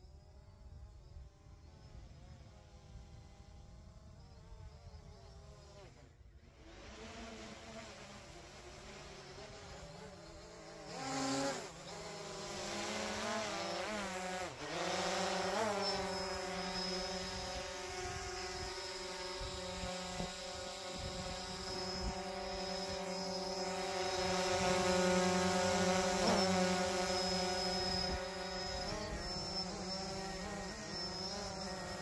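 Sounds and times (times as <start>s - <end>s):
drone propellers buzzing: 1.9s - 32.0s.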